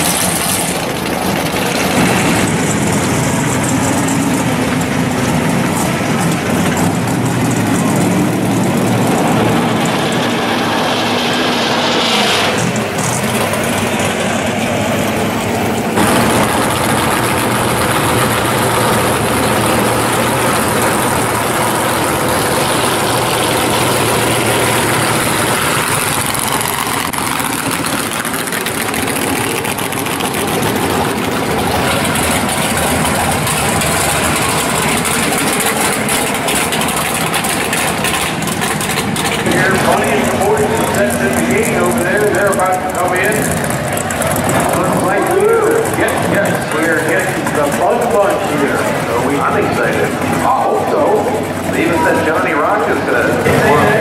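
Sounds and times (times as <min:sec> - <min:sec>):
car engines rolling past: 0:00.0 - 0:54.0.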